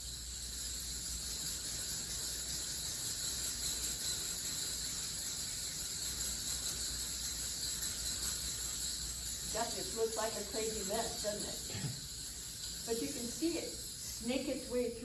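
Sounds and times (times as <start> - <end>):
metal slinky coils sliding on tiles: 0.0 - 15.0.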